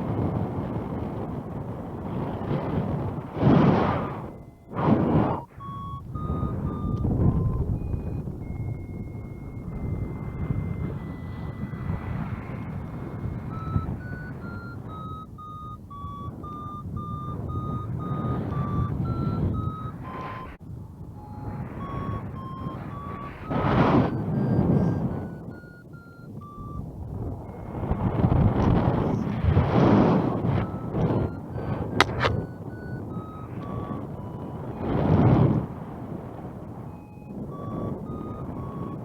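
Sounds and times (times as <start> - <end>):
wind buffeting microphone: 0.0 - 39.0
variometer beeping: 0.1 - 39.0.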